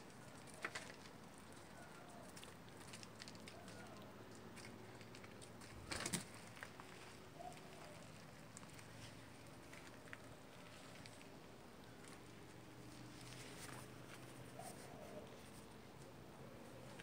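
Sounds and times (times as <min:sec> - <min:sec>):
cat scuffling on mulch: 0:00.0 - 0:16.1.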